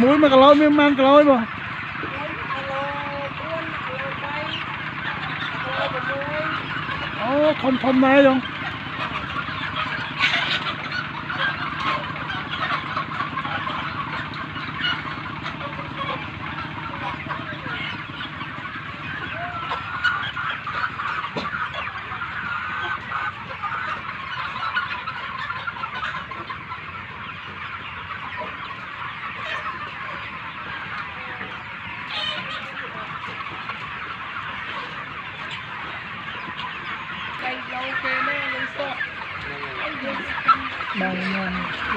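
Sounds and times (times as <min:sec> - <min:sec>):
chickens clucking and chirping: 0:00.0 - 0:41.9.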